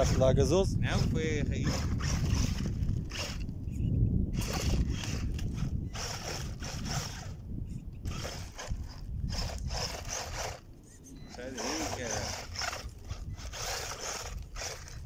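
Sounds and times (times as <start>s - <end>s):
toy car electric motor: 0.0s - 7.4s, 8.0s - 15.0s
tyres on loose dirt and stones: 0.0s - 15.0s
wind rumble on microphone: 0.0s - 15.0s.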